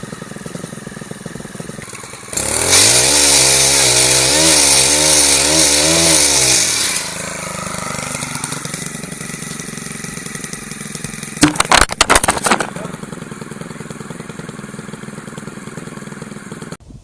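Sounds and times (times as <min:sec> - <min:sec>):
chainsaw running: 0:00.0 - 0:16.8.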